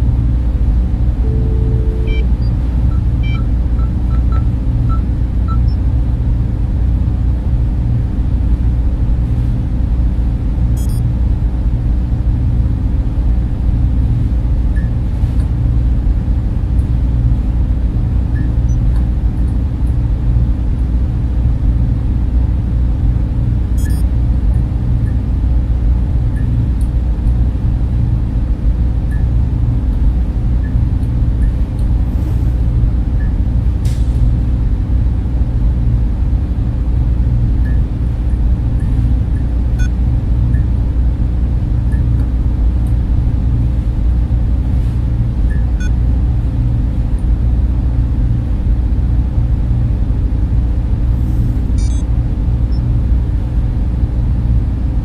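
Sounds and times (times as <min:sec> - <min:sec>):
cooling fans humming: 0:00.0 - 0:55.0.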